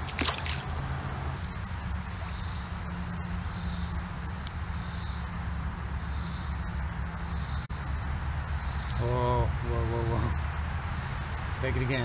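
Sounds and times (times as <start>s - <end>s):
insects trilling: 0.0s - 12.0s
soft pulsing insect buzz: 1.4s - 12.0s.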